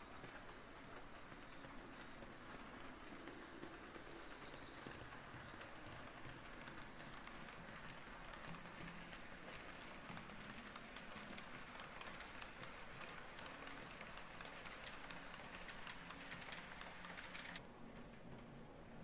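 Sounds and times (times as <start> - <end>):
model train wagons rattling: 0.0 - 18.2.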